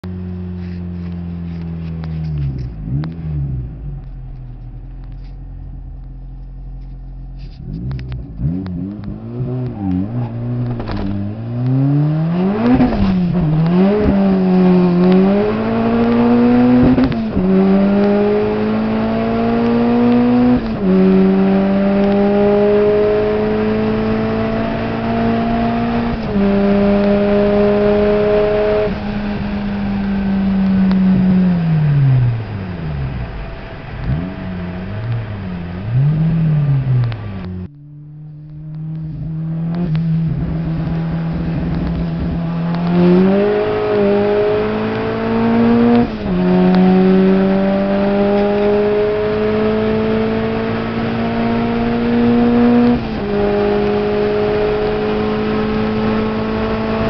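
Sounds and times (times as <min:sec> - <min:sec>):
car engine revving through gears: 0:00.0 - 0:05.4, 0:06.8 - 0:57.0.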